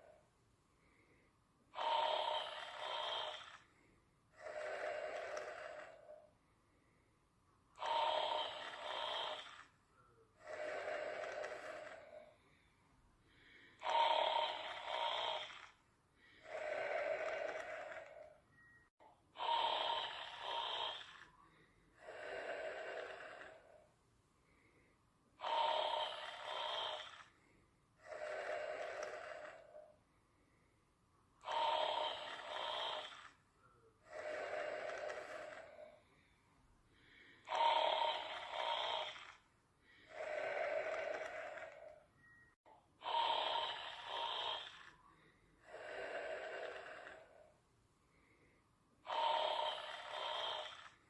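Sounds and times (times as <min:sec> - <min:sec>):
person snoring: 0:00.8 - 0:06.3, 0:07.7 - 0:09.8, 0:10.4 - 0:12.7, 0:13.3 - 0:18.4, 0:19.3 - 0:23.9, 0:24.5 - 0:30.0, 0:31.4 - 0:36.4, 0:37.0 - 0:42.1, 0:43.0 - 0:51.0.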